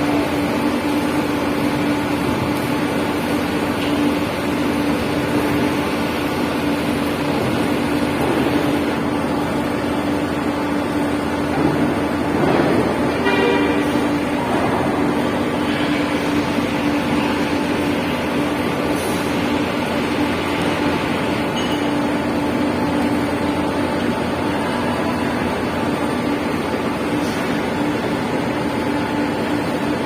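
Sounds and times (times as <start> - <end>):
engine drone: 0.0 - 30.0.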